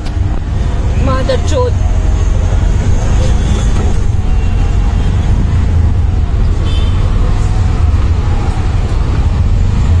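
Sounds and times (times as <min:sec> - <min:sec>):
auto-rickshaw engine rumble: 0:00.0 - 0:10.0.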